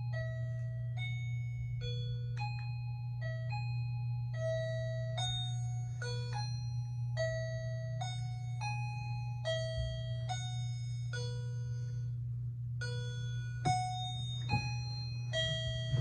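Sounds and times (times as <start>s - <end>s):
electronic doorbell chime melody: 0.0s - 12.2s, 12.8s - 16.0s
steady low hum: 0.0s - 16.0s.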